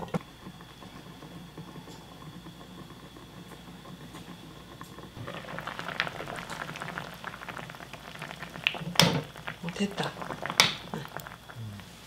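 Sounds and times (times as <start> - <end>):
crackling small pops: 0.0 - 11.9
water boiling in a pan: 0.0 - 12.0.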